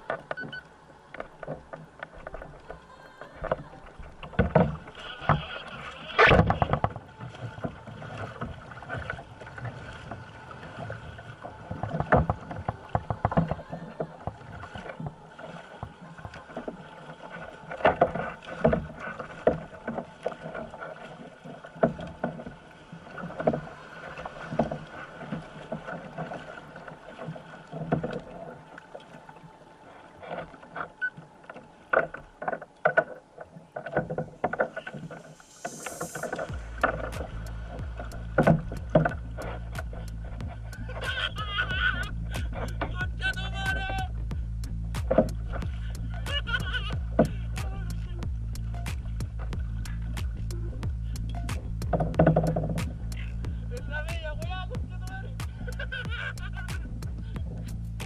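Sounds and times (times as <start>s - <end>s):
paddle blades splashing: 0.0s - 58.0s
water slapping against hull: 0.0s - 58.0s.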